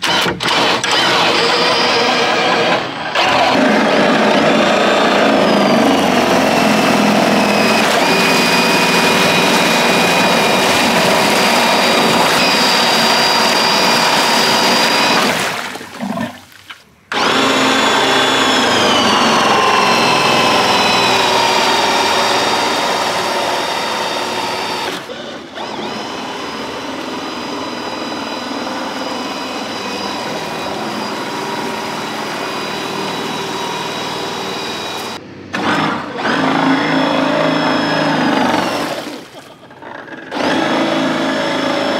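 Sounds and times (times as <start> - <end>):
power drill whine: 0.0 - 16.1, 17.1 - 41.9
water jet rushing: 3.6 - 39.9.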